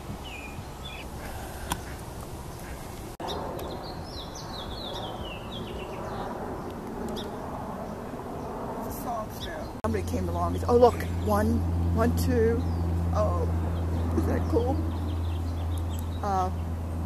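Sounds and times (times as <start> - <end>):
low background rumble: 0.0 - 17.0
songbird singing: 0.0 - 17.0.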